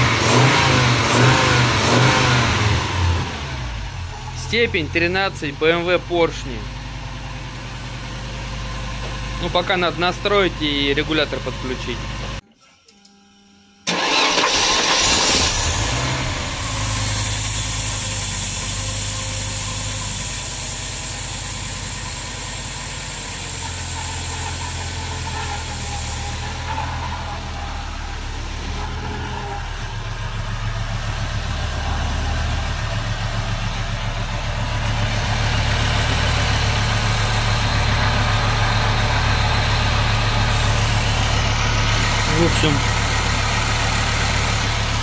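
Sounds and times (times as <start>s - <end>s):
car engine idling: 0.0s - 12.4s, 13.9s - 45.0s.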